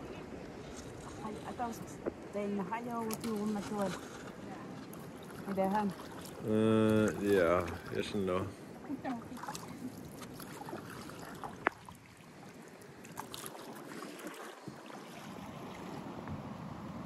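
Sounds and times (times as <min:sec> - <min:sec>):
water rippling around paddle: 0:00.0 - 0:17.0.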